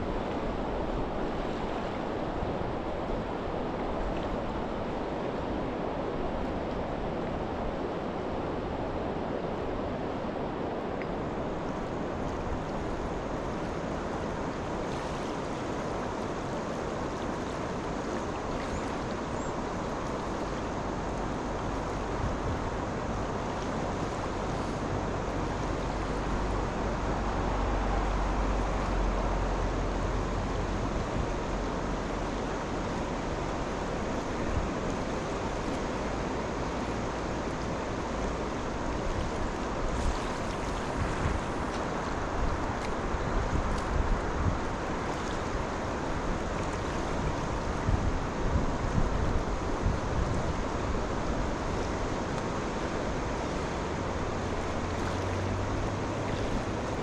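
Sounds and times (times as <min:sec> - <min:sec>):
flowing river water: 0:00.0 - 0:57.0.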